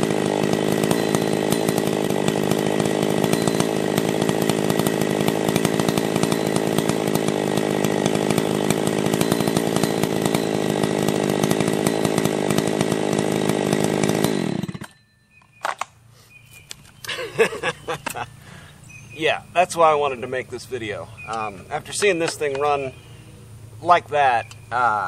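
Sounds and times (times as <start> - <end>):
chainsaw running: 0.0 - 25.0.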